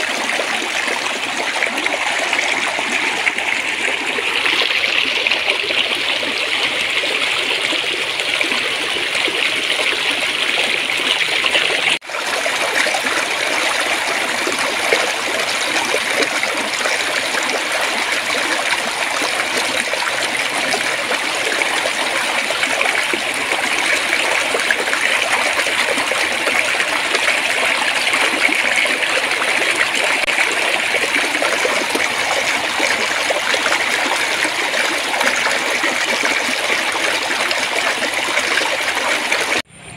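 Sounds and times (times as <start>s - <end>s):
stream water babbling: 0.0s - 39.7s.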